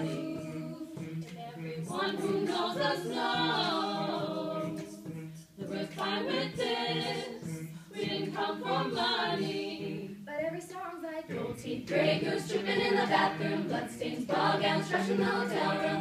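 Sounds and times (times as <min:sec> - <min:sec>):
a cappella choir singing: 0:00.0 - 0:16.0.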